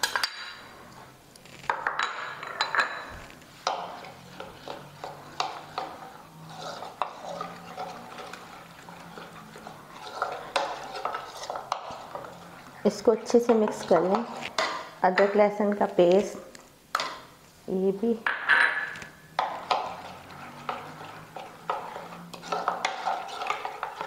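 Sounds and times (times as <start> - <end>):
metal spoon stirring in plastic bowl: 1.5 - 24.0.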